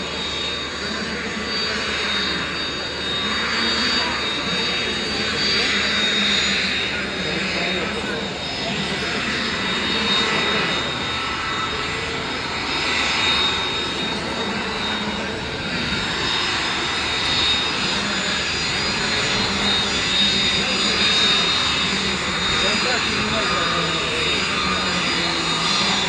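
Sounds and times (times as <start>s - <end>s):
aircraft engines running: 0.0s - 26.0s.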